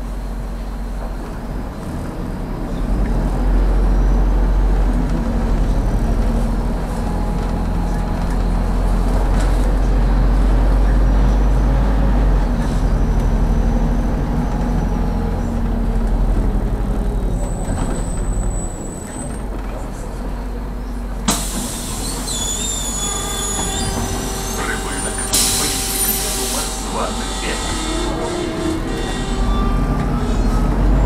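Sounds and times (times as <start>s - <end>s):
bus diesel engine rumble: 0.0s - 31.0s
road and tyre noise: 0.0s - 31.0s.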